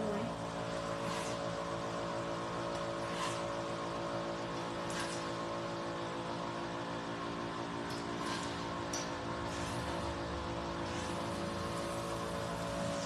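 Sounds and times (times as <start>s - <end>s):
machine motor hum: 0.0s - 13.0s.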